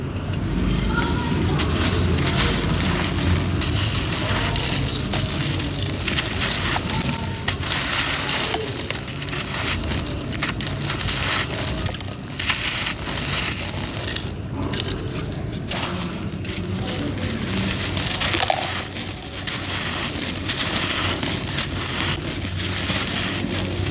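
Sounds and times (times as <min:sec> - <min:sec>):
cement crunching: 0:00.3 - 0:23.9.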